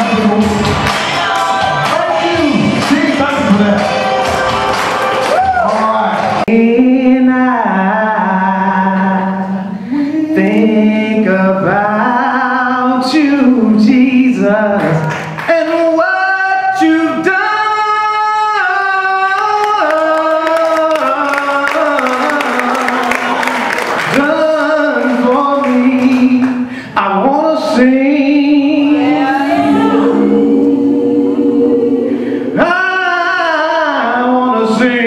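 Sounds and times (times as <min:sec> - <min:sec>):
person singing gospel: 0:00.0 - 0:05.3, 0:06.2 - 0:35.0
musical backing: 0:00.0 - 0:35.0.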